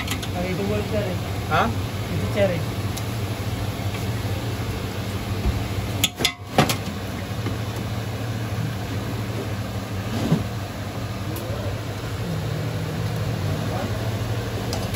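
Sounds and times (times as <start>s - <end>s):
low mechanical hum: 0.0s - 14.9s.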